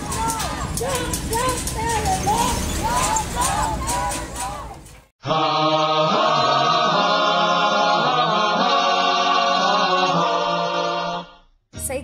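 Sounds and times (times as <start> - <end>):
voices holding a chant-like chord: 0.0 - 11.4.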